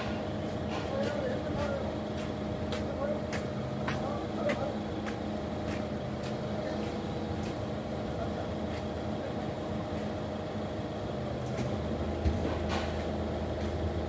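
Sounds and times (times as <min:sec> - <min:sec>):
forklift engine idling: 0:00.0 - 0:14.0.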